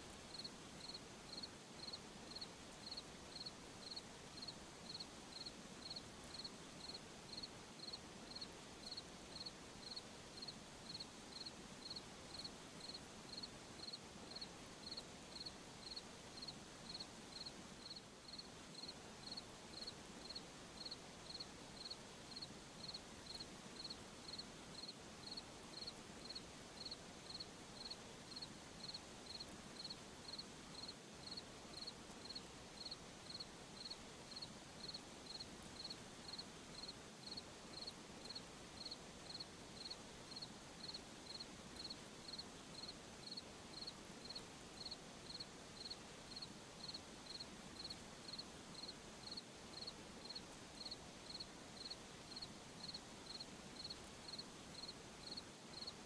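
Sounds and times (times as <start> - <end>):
faint hiss: 0.0 - 56.0
cricket chirping: 0.3 - 55.9.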